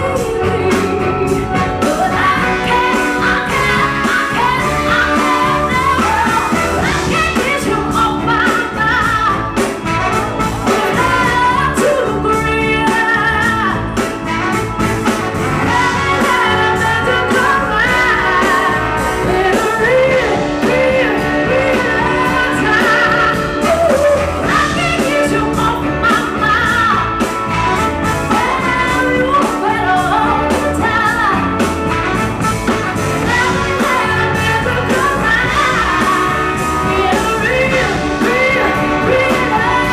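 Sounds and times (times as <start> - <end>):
live soul band playing: 0.0 - 39.9
woman singing lead: 0.0 - 39.9.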